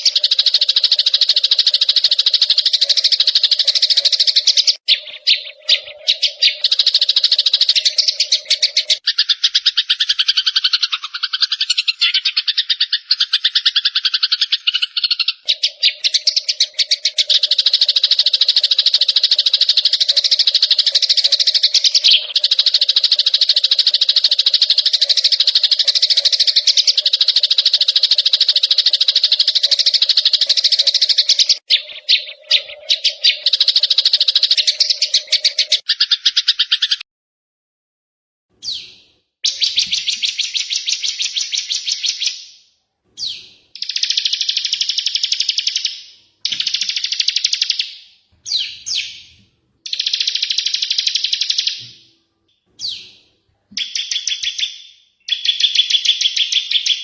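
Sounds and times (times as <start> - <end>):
songbird chattering trill: 0.0 - 37.0, 38.6 - 42.5, 43.2 - 52.1, 53.8 - 57.0.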